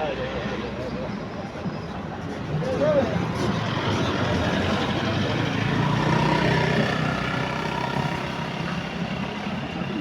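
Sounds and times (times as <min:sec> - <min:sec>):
road and traffic noise: 0:00.0 - 0:10.0.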